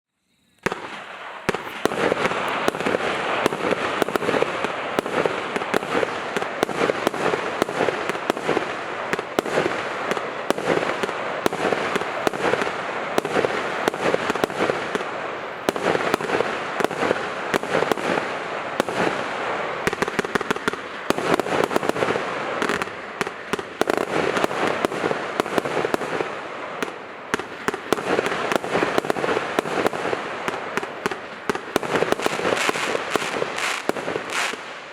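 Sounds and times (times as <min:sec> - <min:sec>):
firework hissing and crackling: 0:00.2 - 0:34.9.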